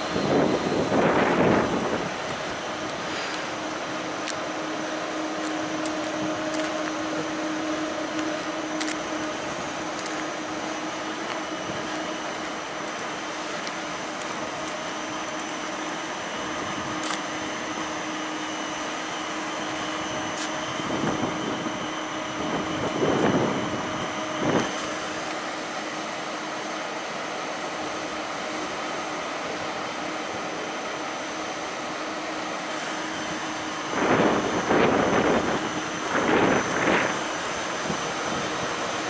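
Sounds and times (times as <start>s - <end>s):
train cooling fans whirring: 0.0s - 39.0s.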